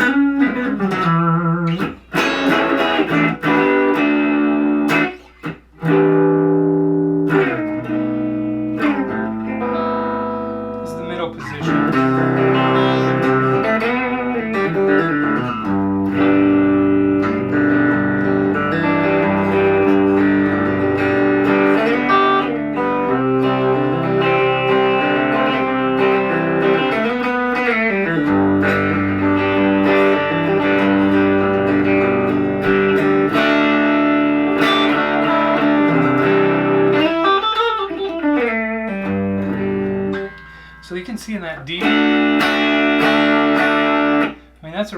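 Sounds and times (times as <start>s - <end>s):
electric guitar chords ringing: 0.0s - 44.5s.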